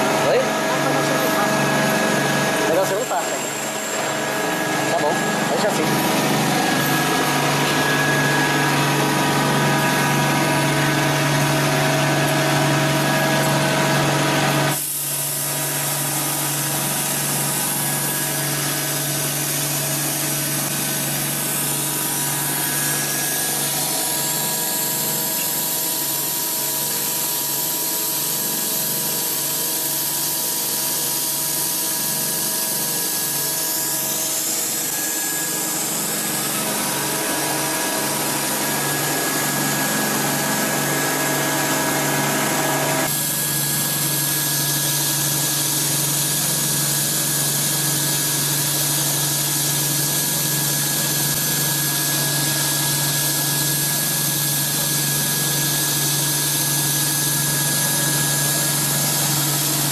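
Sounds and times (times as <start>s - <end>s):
machine tool humming: 0.0s - 59.9s.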